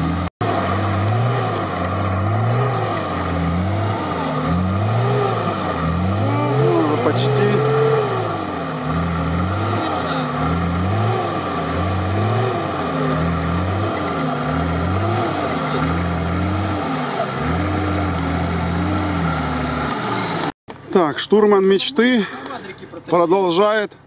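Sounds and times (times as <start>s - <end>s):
diesel engine straining: 0.0s - 24.0s.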